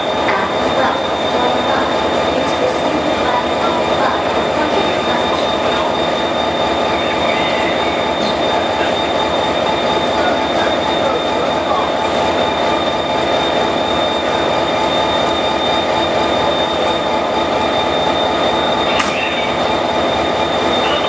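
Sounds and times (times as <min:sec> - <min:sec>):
diesel locomotive idling: 0:00.0 - 0:21.0
thin high whine: 0:00.0 - 0:21.0.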